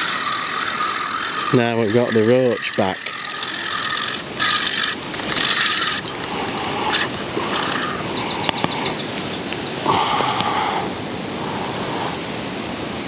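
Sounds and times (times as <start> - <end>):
fishing reel whirring: 0.0 - 10.8.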